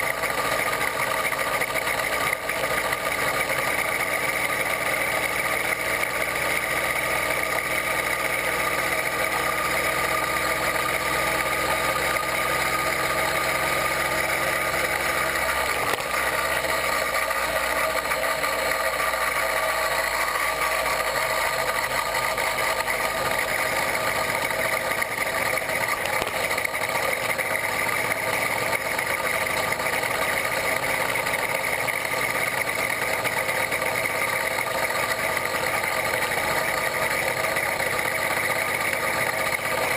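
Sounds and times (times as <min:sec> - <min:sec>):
two-stroke engine droning: 0:00.0 - 0:39.9.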